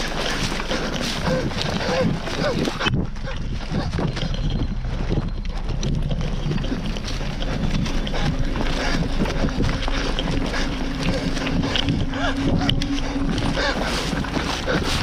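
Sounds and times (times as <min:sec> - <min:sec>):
footsteps through long grass: 0:00.0 - 0:15.0
handheld camera rustle and knocks: 0:00.0 - 0:15.0
wind on microphone: 0:00.0 - 0:15.0.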